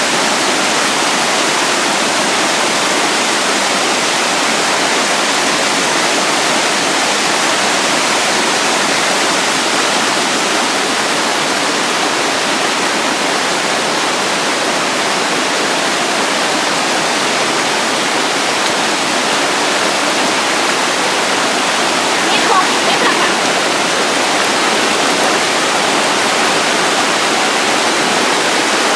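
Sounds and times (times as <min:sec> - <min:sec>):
waterfall roaring: 0:00.0 - 0:28.9.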